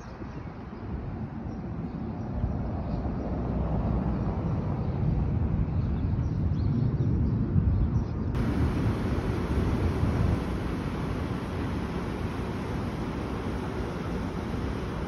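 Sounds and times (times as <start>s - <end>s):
city ambience rumble: 0.0s - 15.0s.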